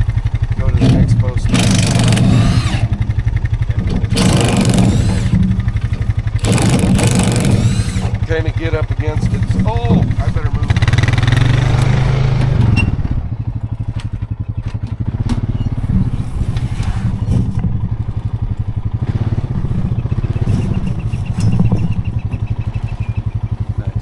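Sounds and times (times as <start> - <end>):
sharp knocks and clatters: 0.0 - 23.7
engine running at low revs: 0.0 - 24.0.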